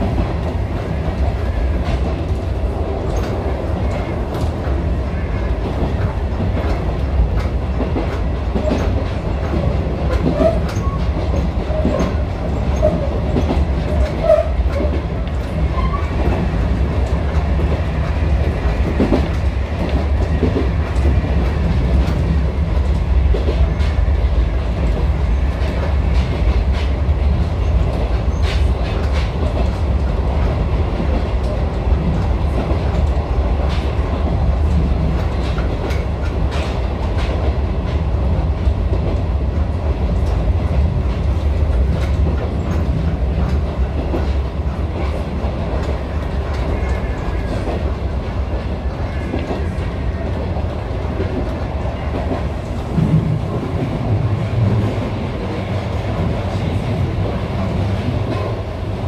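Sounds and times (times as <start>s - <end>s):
rumble of wheels on rail: 0.0s - 59.0s.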